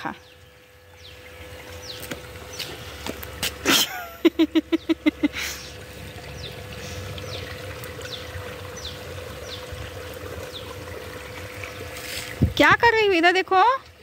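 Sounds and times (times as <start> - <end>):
water gushing from a hose: 0.7 - 14.0.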